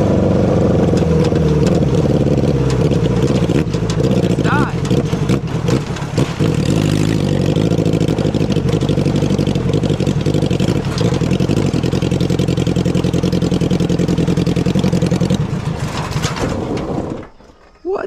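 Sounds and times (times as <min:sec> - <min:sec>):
lawnmower engine running: 0:00.0 - 0:17.8.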